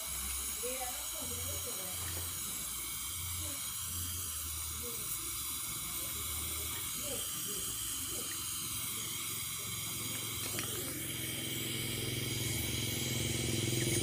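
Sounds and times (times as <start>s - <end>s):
welding torch flame hissing: 0.0s - 14.0s.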